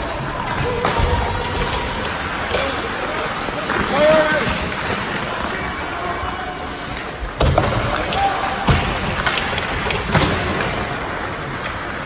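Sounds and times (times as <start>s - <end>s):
puck and sticks hitting boards: 0.0s - 5.2s, 6.9s - 12.0s.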